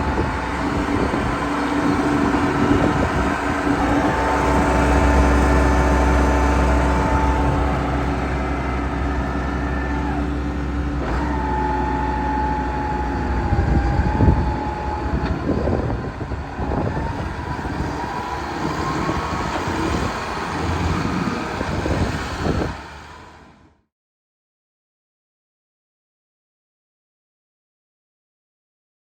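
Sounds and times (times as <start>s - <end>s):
tractor diesel engine running: 0.0s - 23.7s.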